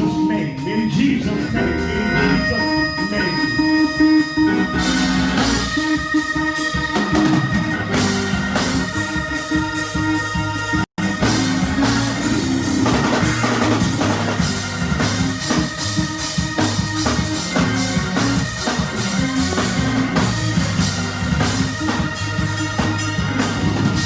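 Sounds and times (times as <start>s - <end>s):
bass line: 0.0s - 24.0s
drum kit beat: 0.0s - 24.0s
held keyboard chords: 0.0s - 24.0s.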